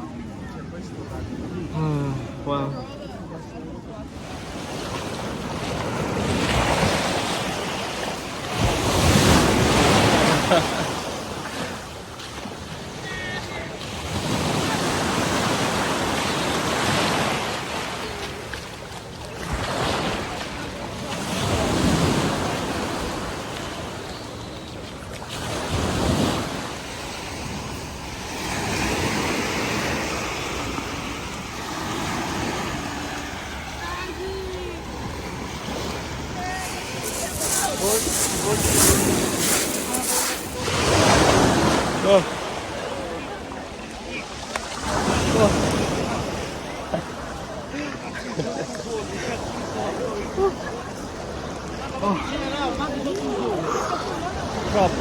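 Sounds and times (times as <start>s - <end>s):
sea waves washing on shore: 4.0s - 55.0s.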